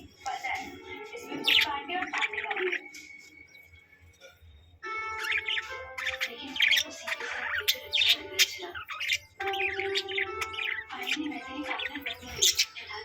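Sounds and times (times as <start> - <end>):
budgerigars chirping and squawking: 0.0 - 13.0.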